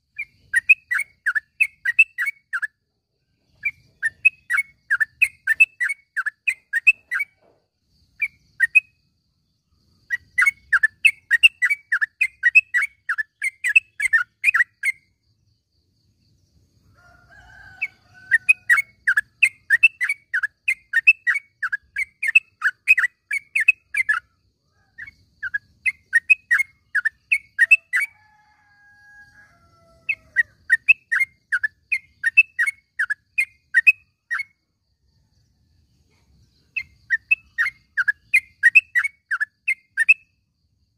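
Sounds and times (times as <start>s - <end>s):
bird sharp repeated chirps: 0.0s - 16.0s, 18.3s - 28.1s, 30.1s - 34.8s, 36.2s - 40.6s.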